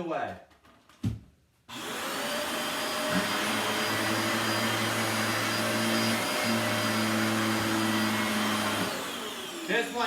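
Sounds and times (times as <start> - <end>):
vacuum cleaner running: 1.7 - 10.0.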